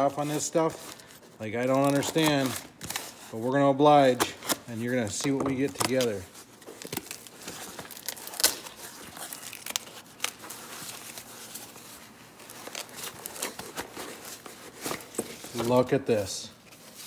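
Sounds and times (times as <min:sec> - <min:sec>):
paper wrapping rustling: 0:00.0 - 0:17.0.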